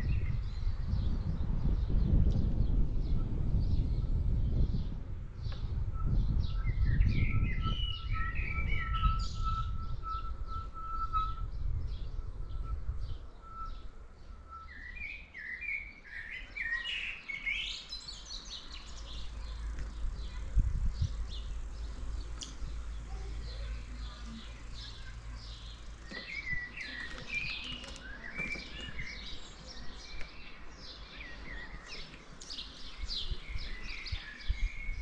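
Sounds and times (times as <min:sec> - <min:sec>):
wind noise on microphone: 0:00.0 - 0:15.1, 0:17.9 - 0:35.0
birds chirping phrases: 0:04.7 - 0:35.0.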